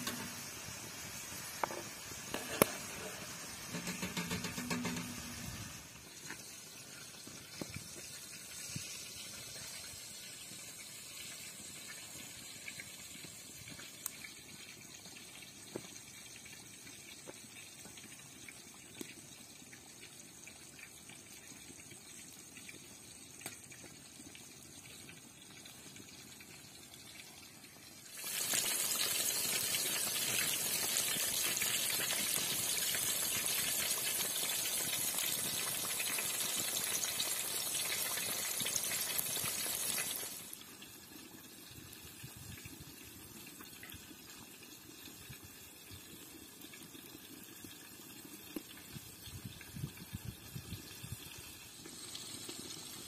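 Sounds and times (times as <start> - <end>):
chicken deep-frying in oil: 0.0 - 53.0.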